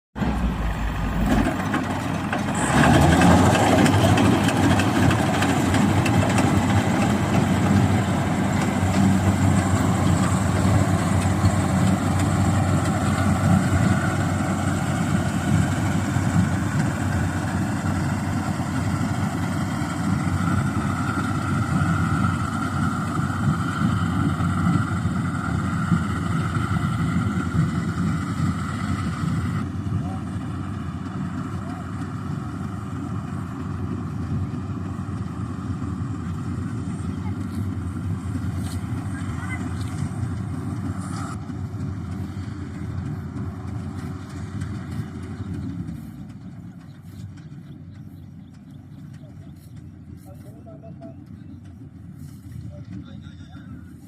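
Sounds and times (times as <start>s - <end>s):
harvesting machine engine running: 0.2s - 54.0s.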